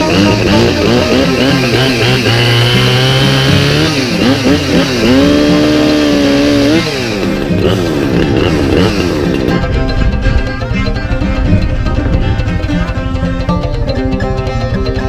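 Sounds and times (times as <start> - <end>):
chainsaw running at high revs: 0.0 - 12.6.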